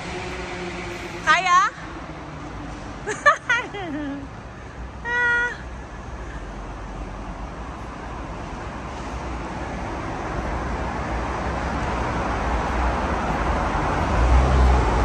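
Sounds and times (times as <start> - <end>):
passing cars rushing: 0.0 - 5.1, 5.8 - 15.0.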